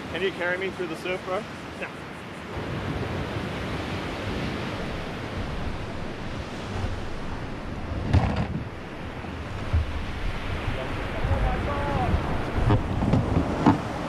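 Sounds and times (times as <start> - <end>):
wind on microphone: 1.5 - 14.0
surf breaking on beach: 2.5 - 14.0.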